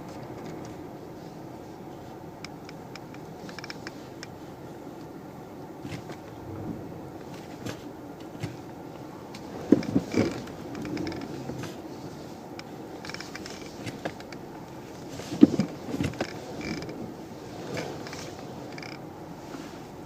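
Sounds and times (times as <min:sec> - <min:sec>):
steady low hum: 0:00.0 - 0:20.0
steering creaking: 0:02.0 - 0:05.1, 0:05.7 - 0:20.0.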